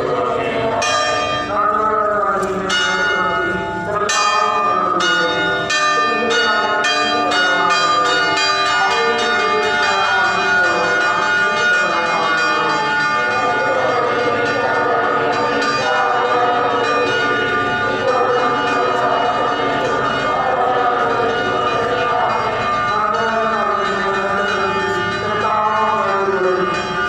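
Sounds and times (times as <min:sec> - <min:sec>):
church bells pealing: 0:00.0 - 0:27.0.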